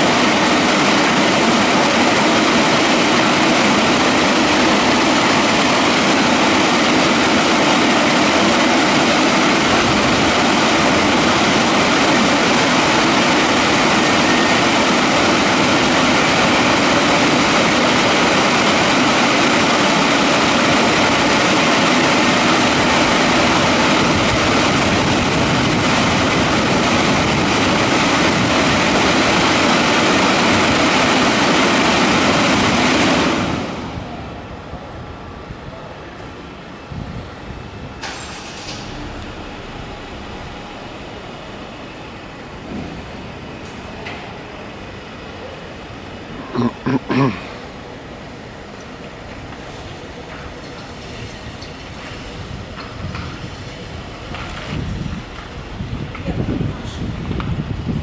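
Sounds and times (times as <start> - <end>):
car wash dryer blowers rushing: 0.0 - 46.4, 47.2 - 58.0.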